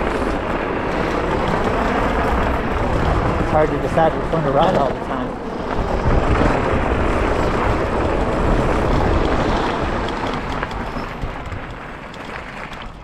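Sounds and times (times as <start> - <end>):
tyre rumble on dirt path: 0.0 - 13.0
wind rushing over microphone: 0.0 - 13.0.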